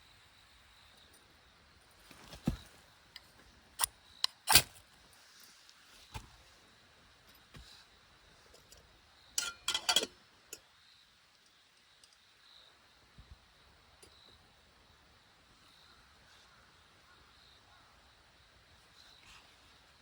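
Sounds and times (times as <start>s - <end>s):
low steady background hiss: 0.0s - 20.0s.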